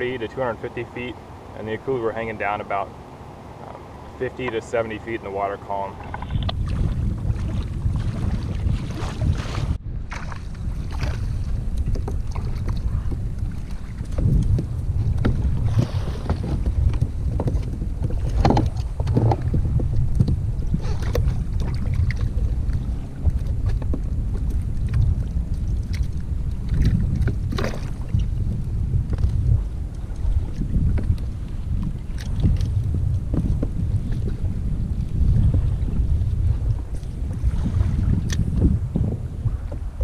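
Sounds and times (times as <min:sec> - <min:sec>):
water lapping at hull: 0:00.0 - 0:40.0
wind buffeting microphone: 0:00.0 - 0:40.0.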